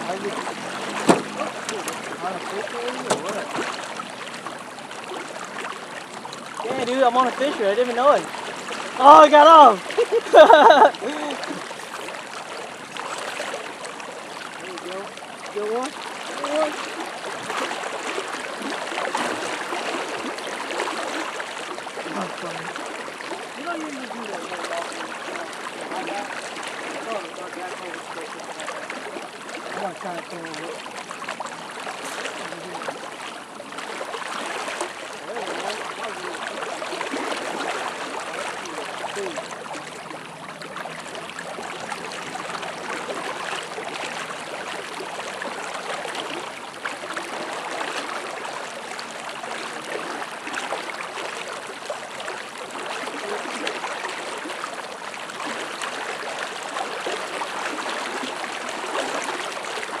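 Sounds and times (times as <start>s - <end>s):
river rushing and gurgling: 0.0s - 60.0s.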